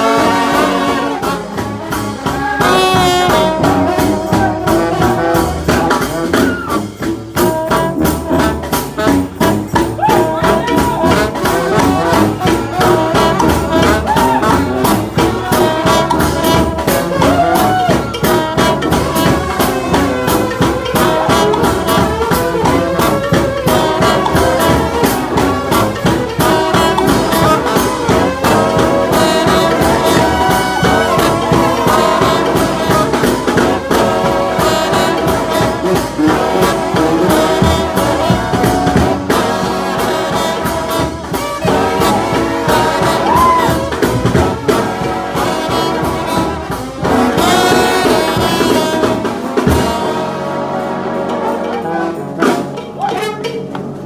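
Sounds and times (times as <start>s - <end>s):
percussion beat: 0.0s - 54.0s
trombone band playing a hymn: 0.0s - 54.0s.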